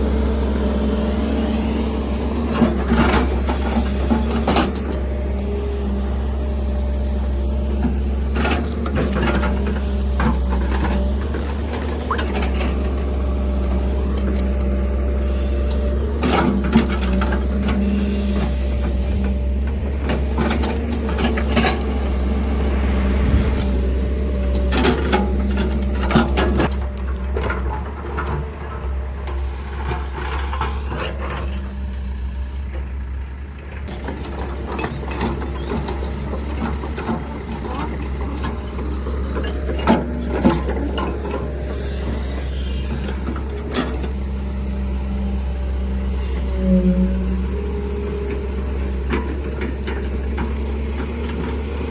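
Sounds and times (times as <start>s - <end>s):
backhoe engine running: 0.0s - 51.9s.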